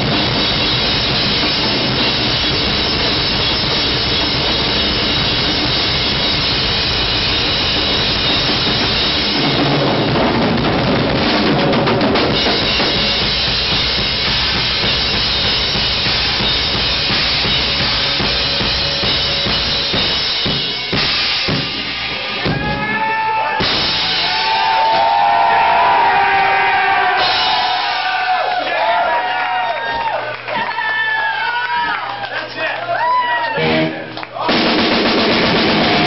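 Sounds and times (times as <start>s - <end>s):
rock drum kit solo: 0.0s - 28.7s, 33.6s - 36.0s.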